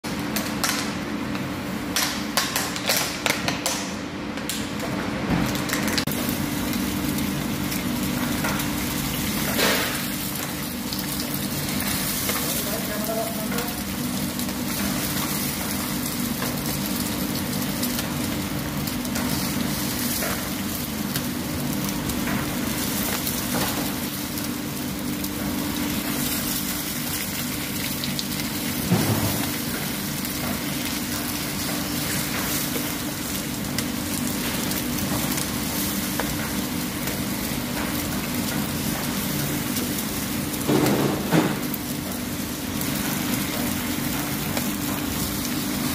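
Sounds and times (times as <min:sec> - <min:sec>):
eggs sizzling on a griddle: 0:05.6 - 0:45.9.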